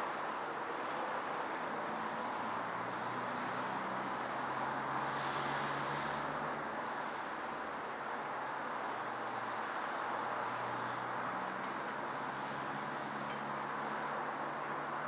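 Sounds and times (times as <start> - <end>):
distant city traffic: 0.0 - 15.0.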